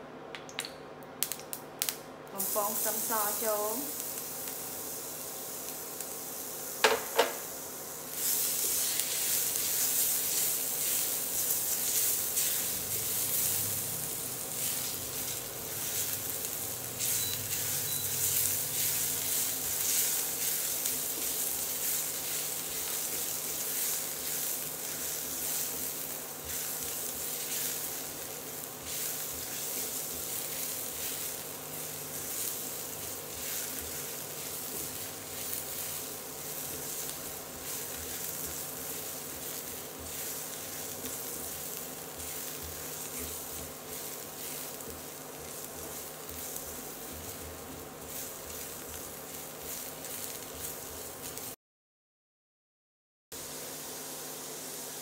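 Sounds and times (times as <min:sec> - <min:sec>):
garlic sizzling in hot oil: 0:01.2 - 0:51.6, 0:53.4 - 0:55.0.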